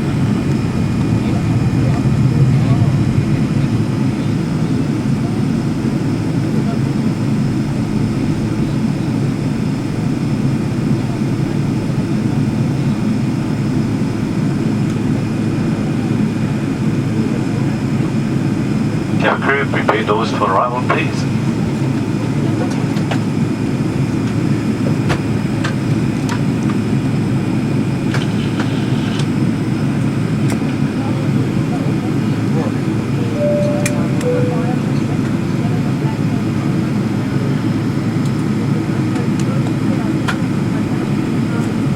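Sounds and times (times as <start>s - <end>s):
airliner engines idling: 0.0s - 41.9s.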